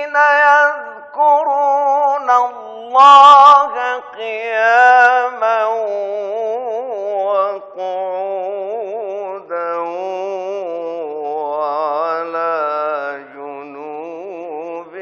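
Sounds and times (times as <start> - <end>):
man chanting melodic recitation: 0.0 - 15.0.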